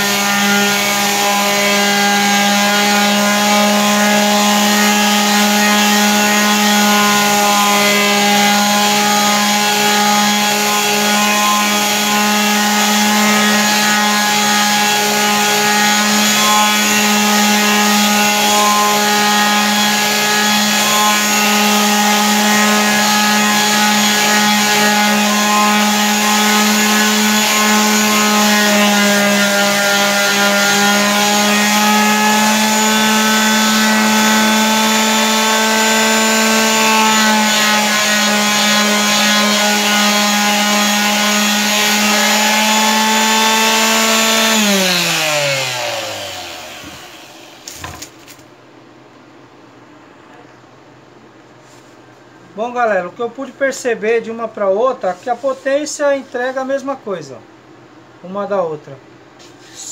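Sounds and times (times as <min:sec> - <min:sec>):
electric sander running: 0:00.0 - 0:48.0.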